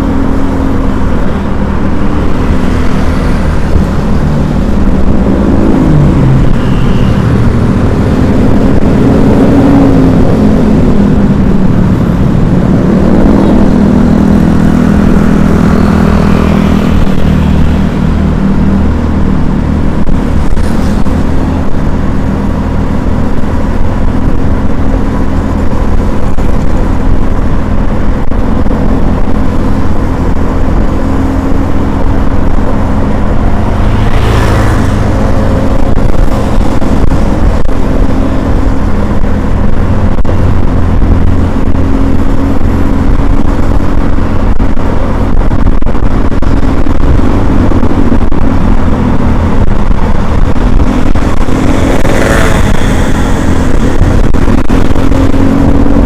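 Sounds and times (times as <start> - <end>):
motor vehicle running: 0.0 - 56.0.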